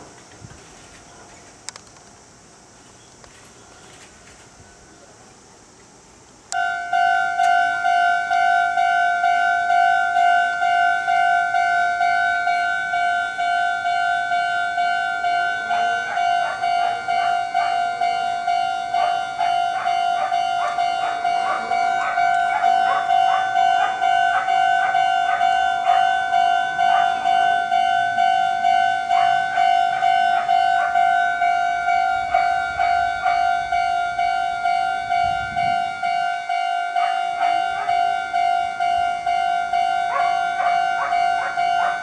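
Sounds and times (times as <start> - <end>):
level crossing bell ringing: 6.6 - 42.0.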